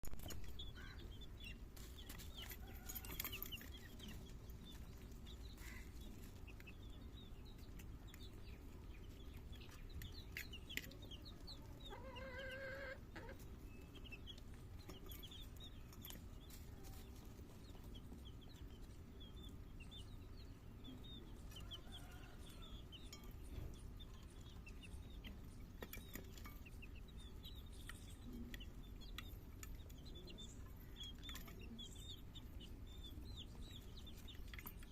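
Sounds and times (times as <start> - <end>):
chickens clucking: 0.2 - 34.9.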